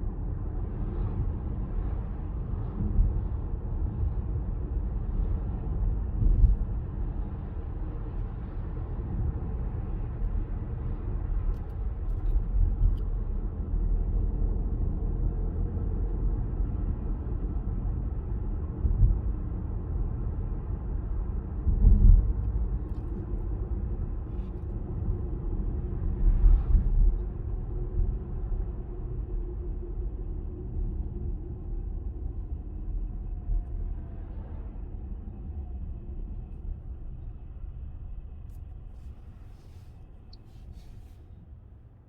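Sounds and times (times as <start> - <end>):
car cabin road and engine rumble: 0.0 - 42.0.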